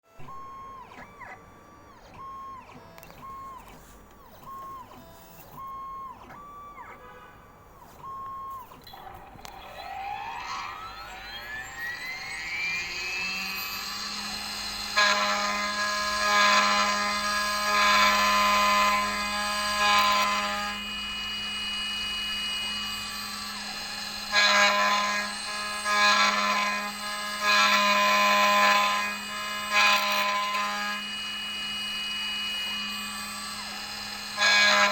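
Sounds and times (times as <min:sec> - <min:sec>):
machine hum: 0:00.1 - 0:34.9
spindle whine: 0:00.1 - 0:34.9.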